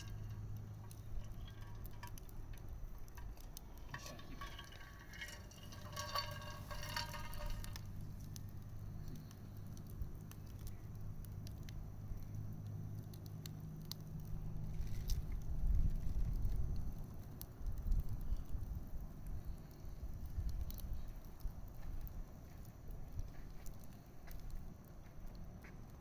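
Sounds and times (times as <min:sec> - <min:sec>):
bonfire crackling and popping: 0:00.0 - 0:26.0
steady low hum: 0:00.0 - 0:26.0.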